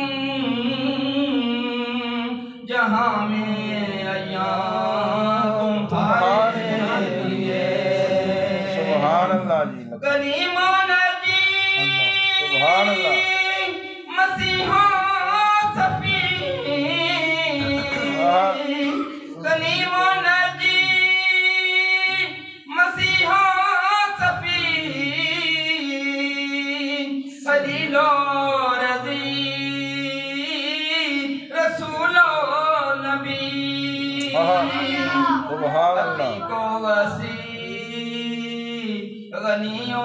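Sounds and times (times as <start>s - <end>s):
man singing unaccompanied: 0.0s - 40.0s.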